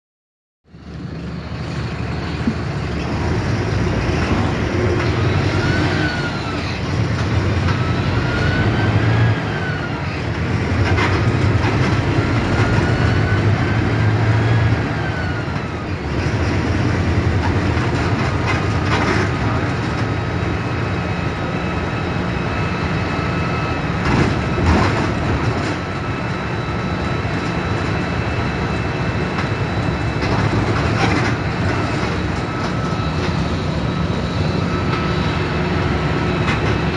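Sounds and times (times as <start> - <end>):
bus diesel engine whining: 0.7 - 36.9.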